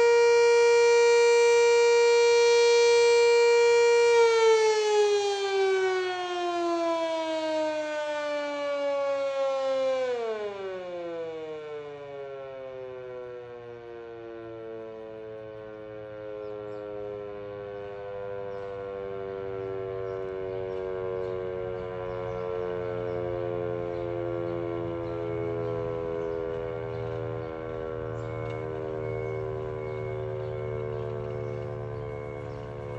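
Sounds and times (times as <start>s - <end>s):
outdoor warning siren: 0.0s - 32.9s.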